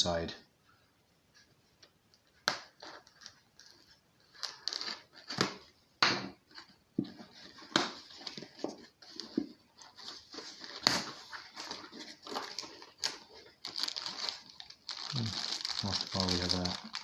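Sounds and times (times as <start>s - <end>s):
packaging rustling and crinkling: 2.2s - 5.8s, 6.5s - 17.0s.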